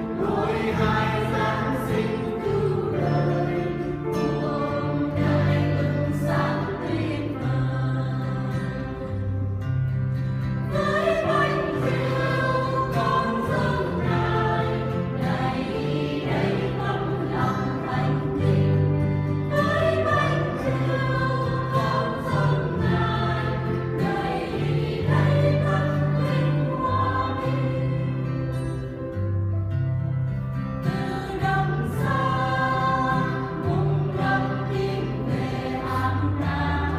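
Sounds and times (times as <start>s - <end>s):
choir singing a hymn: 0.0s - 29.8s, 30.4s - 36.9s.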